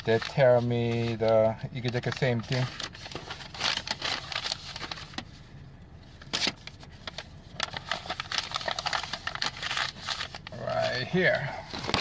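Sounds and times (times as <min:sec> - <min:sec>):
rustling handling noise: 0:00.0 - 0:12.0.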